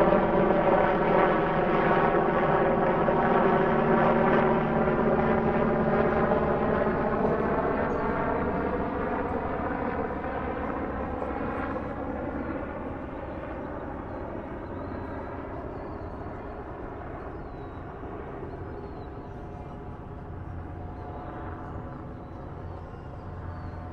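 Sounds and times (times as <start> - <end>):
aircraft engine droning: 0.0 - 23.9.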